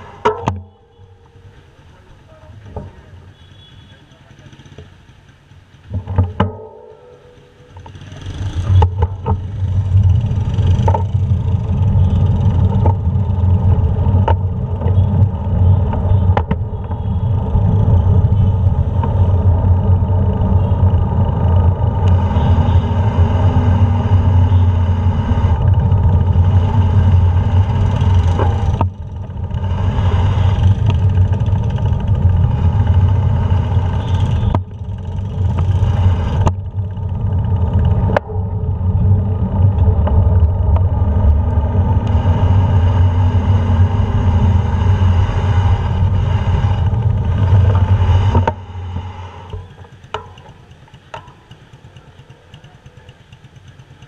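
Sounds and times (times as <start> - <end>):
vehicle rumble: 0.0 - 54.0
wind and road noise: 0.0 - 54.0.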